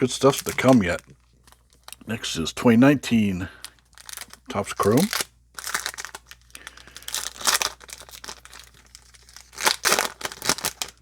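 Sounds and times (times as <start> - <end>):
foil wrapper tearing and crinkling: 0.0 - 2.0, 3.7 - 11.0.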